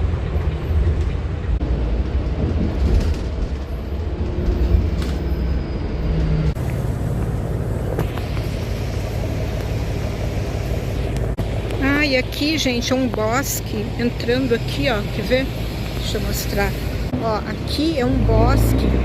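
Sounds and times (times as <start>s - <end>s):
bus engine rumble: 0.0s - 19.0s
road noise: 0.0s - 19.0s.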